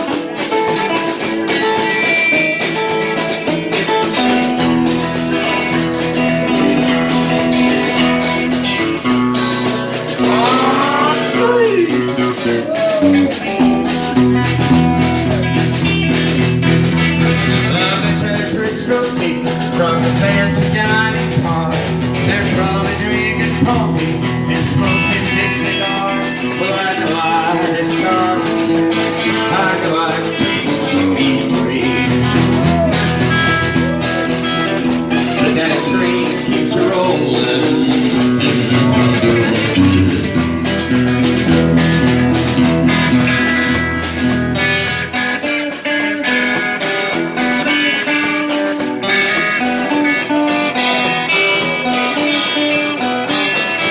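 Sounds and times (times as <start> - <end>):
man singing: 0.0 - 42.2, 49.5 - 53.9
acoustic guitar strummed: 0.0 - 53.9
electric guitar: 0.0 - 53.9.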